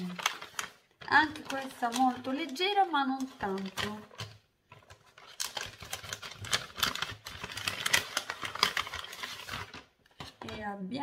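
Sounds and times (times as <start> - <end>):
gift wrapping crinkling: 0.0 - 10.8.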